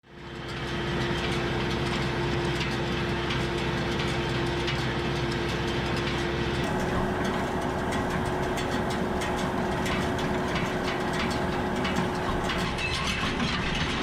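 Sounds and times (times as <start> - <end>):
tractor engine running: 0.2 - 13.5
hay baler clicking and clattering: 0.3 - 14.0.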